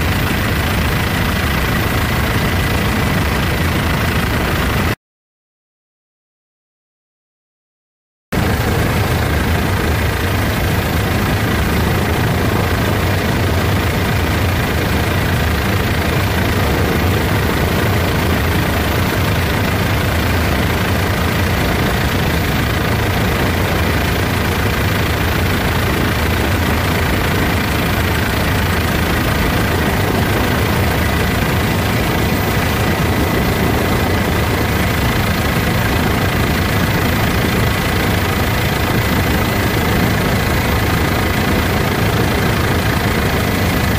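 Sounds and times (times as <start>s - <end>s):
helicopter engine and rotor drone: 0.0s - 5.0s, 8.3s - 43.9s
high whine: 8.4s - 43.9s.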